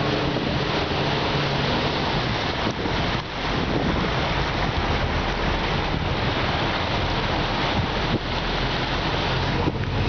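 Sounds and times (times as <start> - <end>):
bus engine drone: 0.0 - 10.0
water sloshing and rushing: 0.0 - 10.0.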